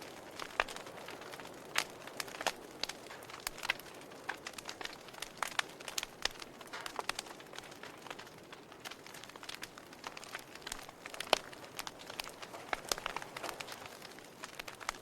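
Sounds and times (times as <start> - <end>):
soft hiss of flames: 0.0 - 15.0
wood fire crackling and popping: 0.0 - 15.0.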